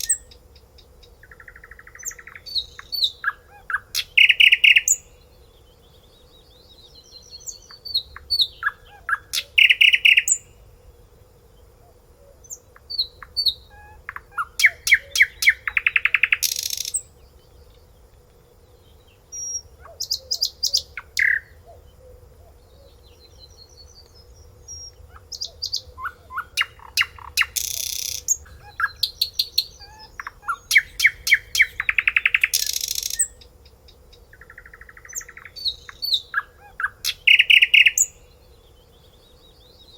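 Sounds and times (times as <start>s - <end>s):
songbird singing trills: 0.0s - 10.8s, 11.4s - 39.9s
faint steady hum: 0.0s - 39.9s.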